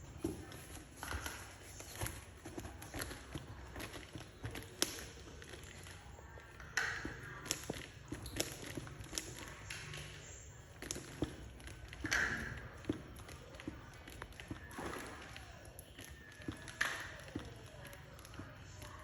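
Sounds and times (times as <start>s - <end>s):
toy pieces tapping and clicking: 0.4s - 19.0s.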